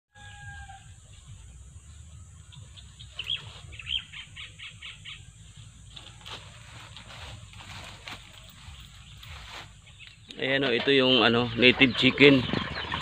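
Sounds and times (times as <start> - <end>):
bird chirping: 0.3 - 13.0.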